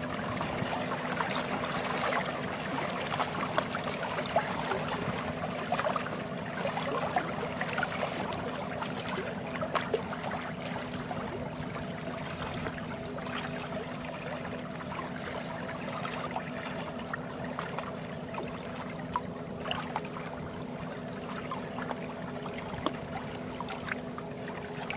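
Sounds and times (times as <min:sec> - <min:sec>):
steady low hum: 0:00.0 - 0:24.9
water lapping at the shore: 0:00.0 - 0:24.9.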